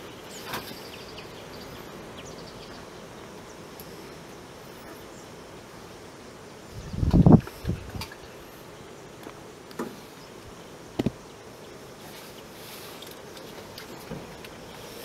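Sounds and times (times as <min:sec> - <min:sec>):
faint insect buzzing: 0:00.0 - 0:15.0.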